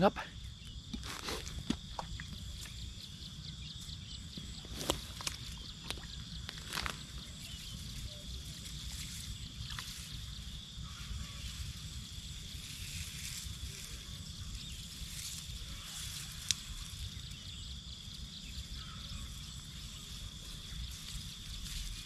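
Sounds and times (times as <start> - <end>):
high-pitched insect drone: 0.0 - 22.0
wind rumble on microphone: 0.5 - 22.0.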